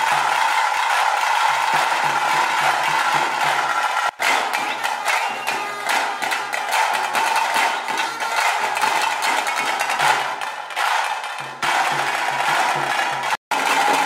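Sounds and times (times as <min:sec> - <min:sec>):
music with fast clattering drums: 0:00.0 - 0:14.0.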